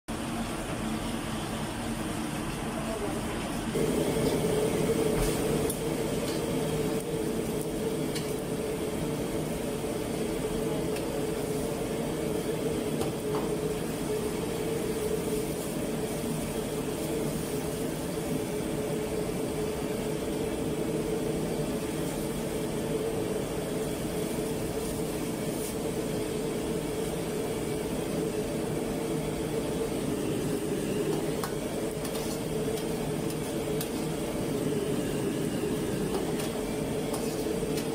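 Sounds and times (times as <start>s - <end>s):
gas burner roaring: 0.1s - 37.9s
water boiling hard: 3.6s - 37.9s.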